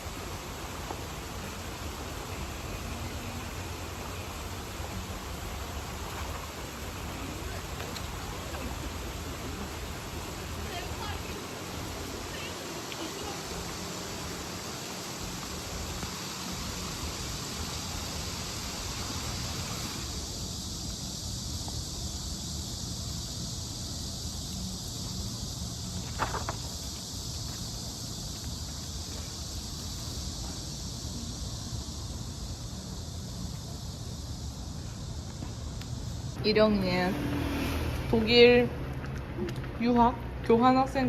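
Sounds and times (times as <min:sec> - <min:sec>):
high hiss: 0:00.0 - 0:41.0.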